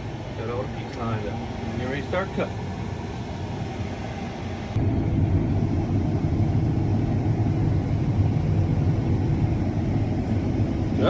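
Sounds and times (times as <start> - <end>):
combine harvester rumble: 0.0 - 11.0.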